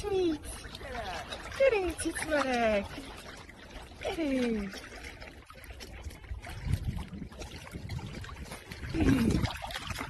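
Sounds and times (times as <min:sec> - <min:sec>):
water sloshing and lapping: 0:00.0 - 0:10.0.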